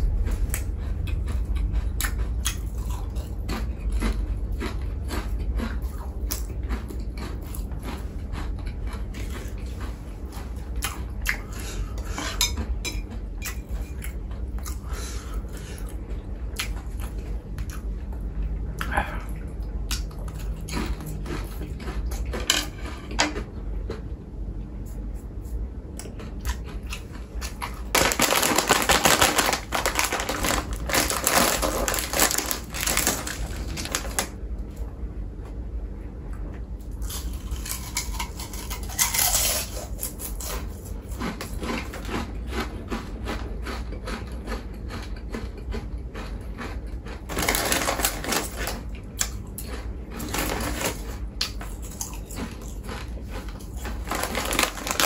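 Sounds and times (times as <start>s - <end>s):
snack food crunching: 0.0s - 24.1s, 24.9s - 34.4s, 36.3s - 55.0s.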